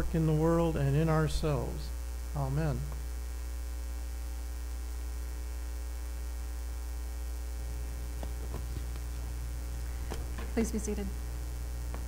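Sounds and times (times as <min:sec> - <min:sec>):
electrical mains hum: 0:00.0 - 0:12.0
faint hiss: 0:00.0 - 0:12.0.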